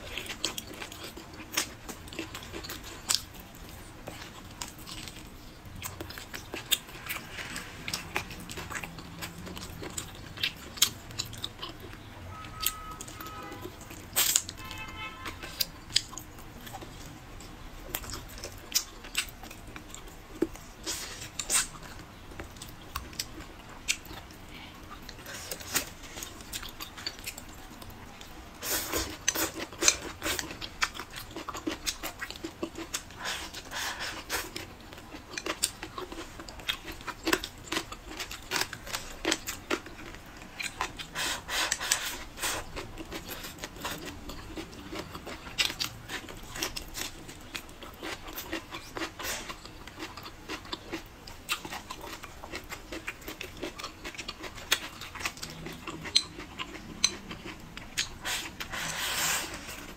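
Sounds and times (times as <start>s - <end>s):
person chewing with mouth sounds: 0.0s - 59.9s.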